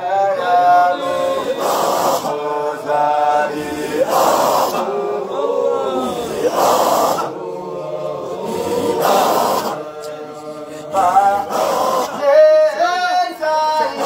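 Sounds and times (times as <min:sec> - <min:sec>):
men chanting: 0:00.0 - 0:14.0.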